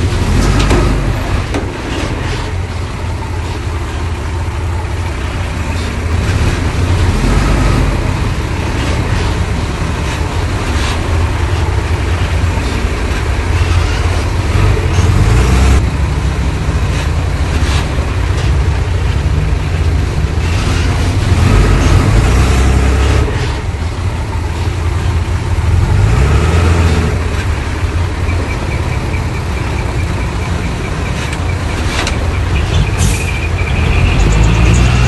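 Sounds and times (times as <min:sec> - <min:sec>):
diesel machinery rumbling: 0:00.0 - 0:35.0.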